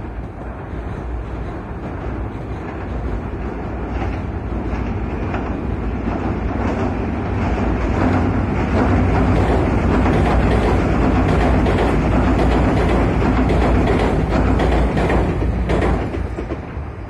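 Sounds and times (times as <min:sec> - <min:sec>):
train wheels rumbling on a bridge: 0:00.0 - 0:17.0.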